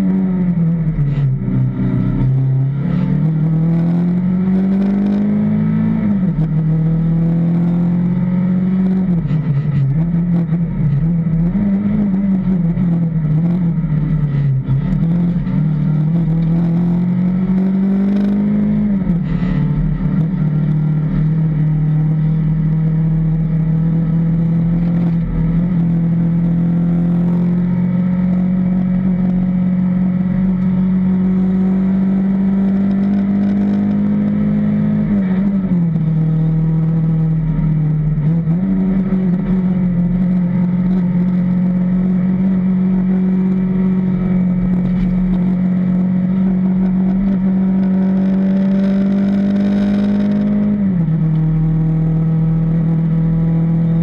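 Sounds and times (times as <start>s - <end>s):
car engine at full throttle: 0.0s - 54.0s.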